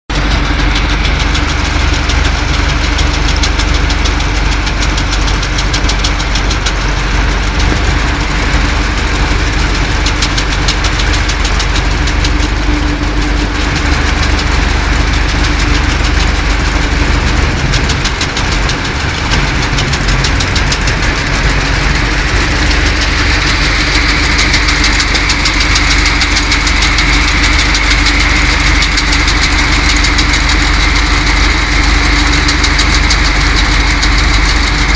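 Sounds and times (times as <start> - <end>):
engine running: 0.1 - 34.9
rapid mechanical clatter: 0.1 - 34.9
steady hum: 0.1 - 34.9.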